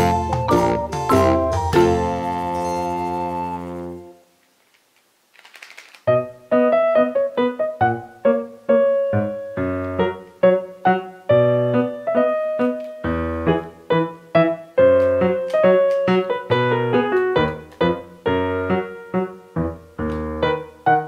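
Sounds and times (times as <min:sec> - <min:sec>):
bouncy piano keyboard music: 0:00.0 - 0:04.2, 0:06.1 - 0:21.0.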